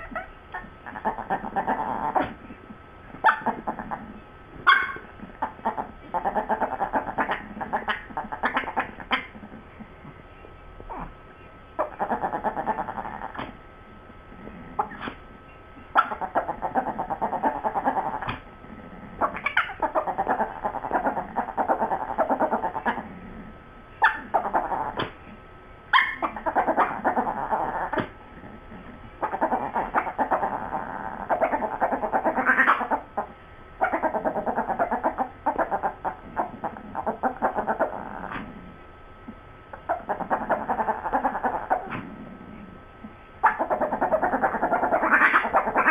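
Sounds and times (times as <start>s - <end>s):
small dogs growling: 0.0s - 4.2s, 4.8s - 9.9s, 10.9s - 11.1s, 11.8s - 13.6s, 14.3s - 15.2s, 15.9s - 25.2s, 26.0s - 38.8s, 39.7s - 45.9s.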